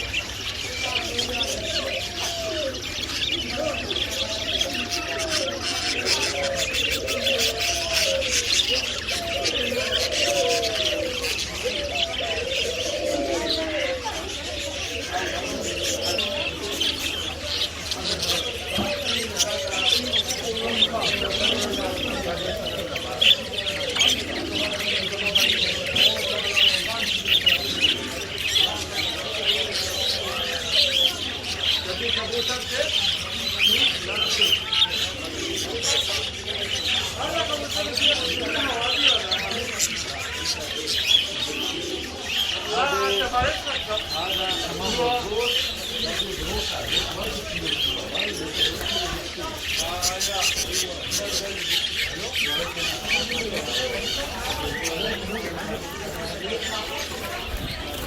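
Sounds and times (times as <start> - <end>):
caged birds chirping: 0.0 - 58.0
rising and falling bird calls: 0.0 - 58.0.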